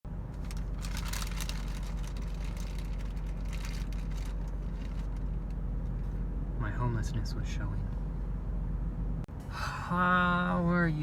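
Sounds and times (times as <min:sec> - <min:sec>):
car engine humming inside cabin: 0:00.1 - 0:11.0.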